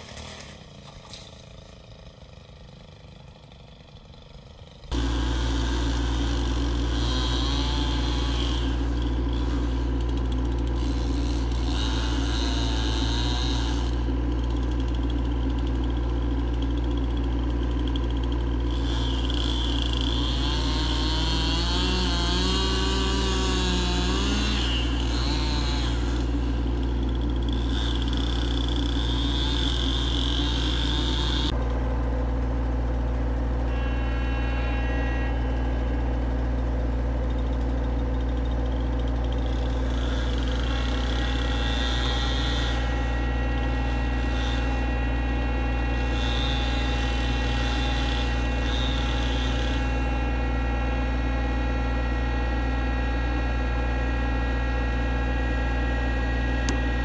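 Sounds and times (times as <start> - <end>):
chainsaw engine idling: 0.0 - 57.0.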